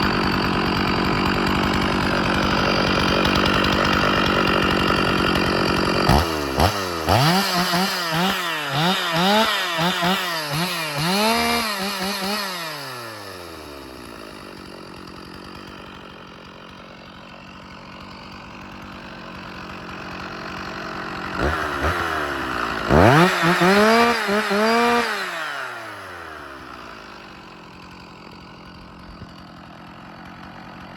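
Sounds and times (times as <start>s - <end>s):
chainsaw revving and idling: 0.0s - 30.9s.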